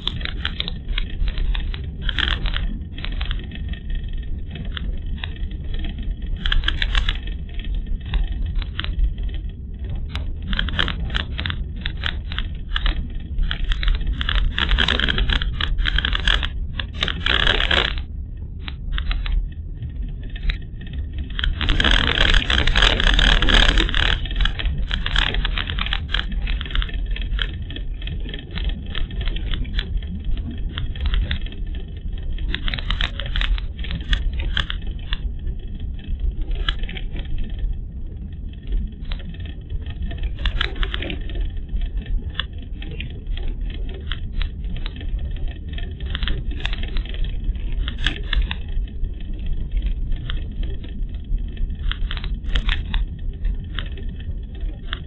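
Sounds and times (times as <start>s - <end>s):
small clicks and rattles: 0.0s - 55.0s.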